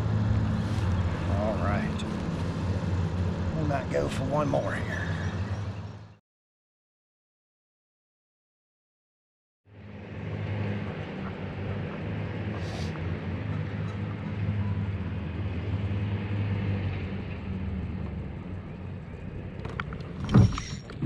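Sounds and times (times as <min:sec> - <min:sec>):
low outdoor rumble: 0:00.0 - 0:06.1, 0:09.7 - 0:21.0.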